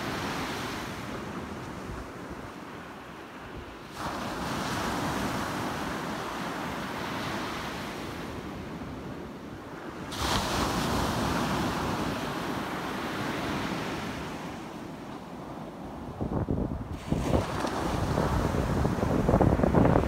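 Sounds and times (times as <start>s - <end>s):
waves breaking on beach: 0.0s - 16.1s, 16.9s - 20.0s.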